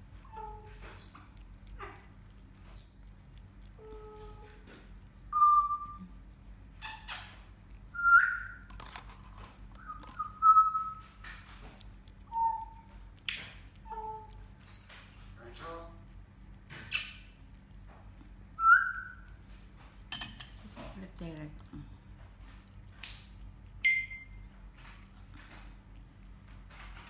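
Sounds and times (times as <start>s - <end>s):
cat licking spoon: 0.0s - 27.0s.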